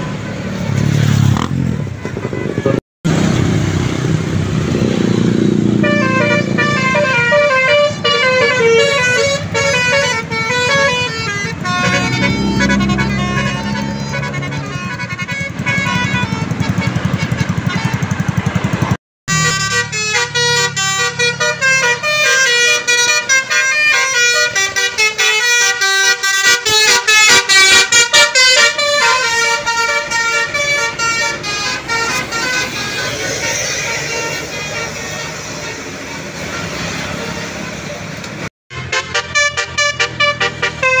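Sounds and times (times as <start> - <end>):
bus musical air horns: 1.8 - 2.8, 5.4 - 18.4, 19.3 - 41.0.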